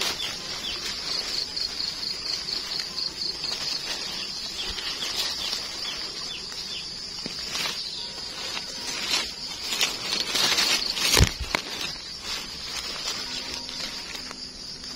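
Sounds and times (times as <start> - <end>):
dry leaves rustling and crackling: 0.0 - 14.9.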